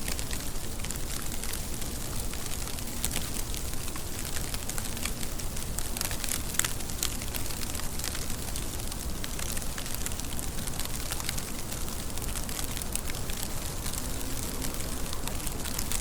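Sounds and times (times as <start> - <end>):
rain drops spattering on hard surface: 0.0 - 16.0.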